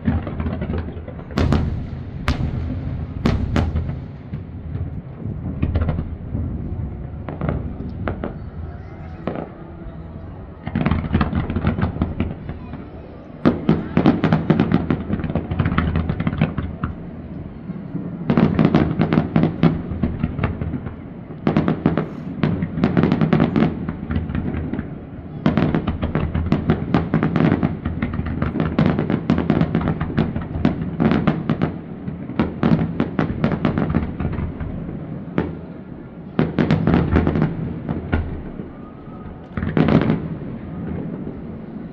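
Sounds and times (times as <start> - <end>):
fireworks bursting and crackling: 0.0 - 41.9.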